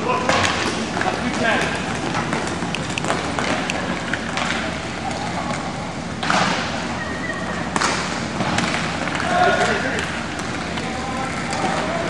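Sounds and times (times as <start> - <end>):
skating and rink noise: 0.0 - 12.0
sticks and puck clacking: 0.0 - 12.0.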